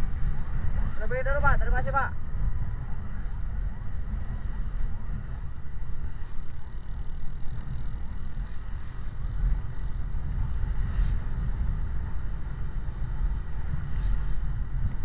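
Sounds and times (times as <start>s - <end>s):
engine and road rumble: 0.0s - 15.0s
wind on microphone: 0.0s - 15.0s.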